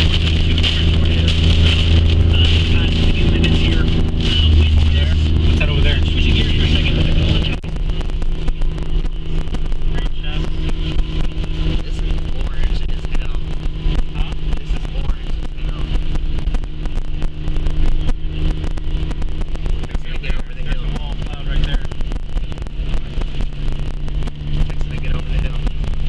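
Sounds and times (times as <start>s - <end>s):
car engine and road drone: 0.0s - 26.0s
heavy low rumble: 0.0s - 26.0s
wind and rain battering car: 0.0s - 26.0s.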